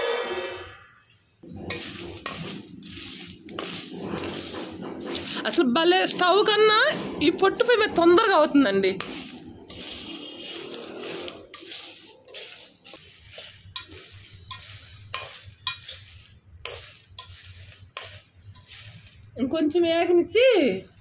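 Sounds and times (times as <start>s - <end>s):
spoon scraping a metal pan: 0.0s - 19.4s.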